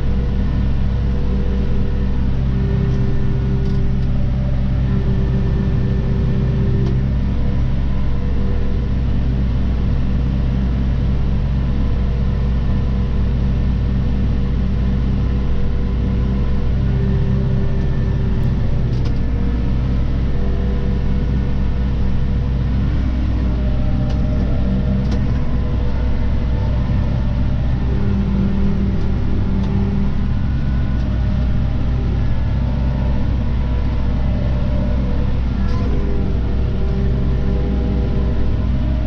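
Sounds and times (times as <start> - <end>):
tractor engine running under load: 0.0 - 39.0.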